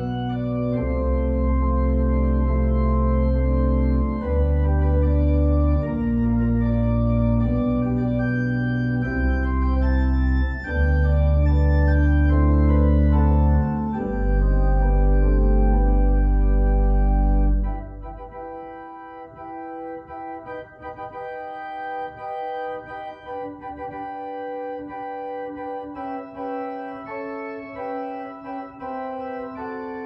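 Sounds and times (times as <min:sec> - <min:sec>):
organ playing slow chords: 0:00.0 - 0:30.0.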